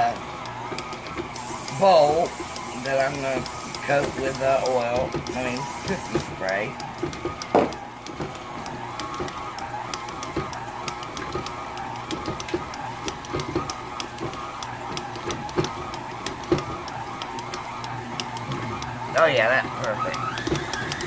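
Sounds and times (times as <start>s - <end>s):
stand mixer motor whine: 0.0s - 21.0s.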